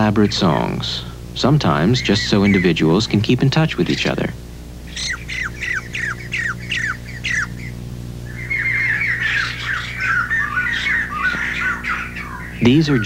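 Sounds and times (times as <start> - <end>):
birds whistling and chattering: 0.0 - 13.0
steady low hum: 0.0 - 13.0.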